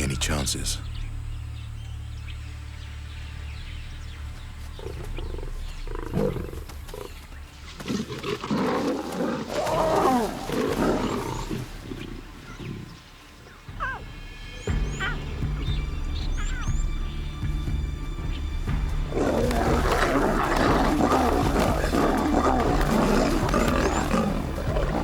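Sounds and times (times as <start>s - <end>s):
low background music: 0.0s - 25.0s
lionesses growling and snarling: 1.6s - 15.8s, 18.7s - 25.0s.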